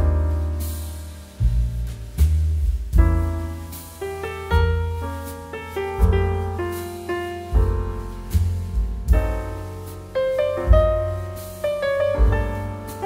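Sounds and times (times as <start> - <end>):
deep bass note: 0.0 - 13.0
piano music: 0.0 - 13.0.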